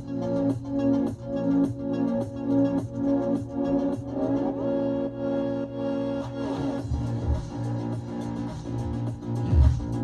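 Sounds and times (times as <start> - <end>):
instrumental music with sustained chords: 0.0 - 10.0.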